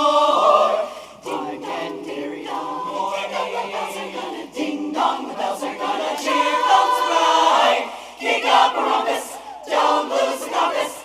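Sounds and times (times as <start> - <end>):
women's chorus singing a cappella: 0.0 - 11.0.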